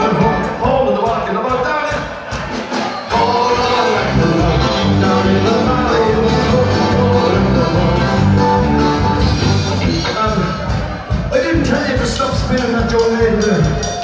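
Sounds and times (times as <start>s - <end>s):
live band playing dance music: 0.0s - 14.0s.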